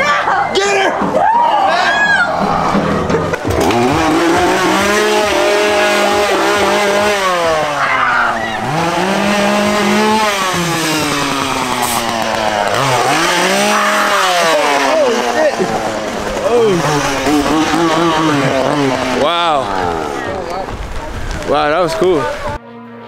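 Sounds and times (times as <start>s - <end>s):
chainsaw engine revving: 2.6s - 22.5s.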